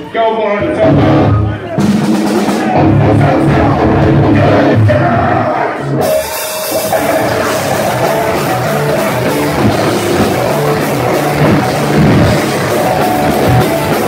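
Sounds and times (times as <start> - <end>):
heavy metal band playing live: 0.3 - 14.0.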